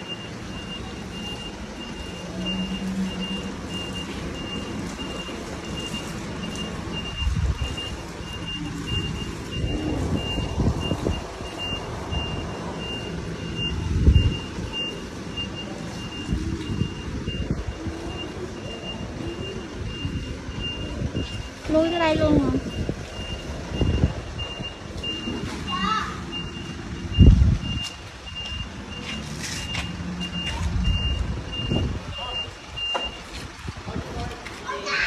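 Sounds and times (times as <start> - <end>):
truck back-up alarm beeping: 0.0 - 33.7.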